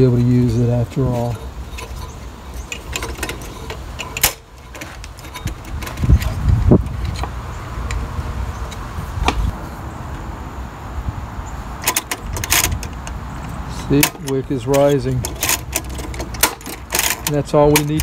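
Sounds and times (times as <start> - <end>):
metallic clicks and knocks: 0.0 - 9.4, 11.8 - 18.0.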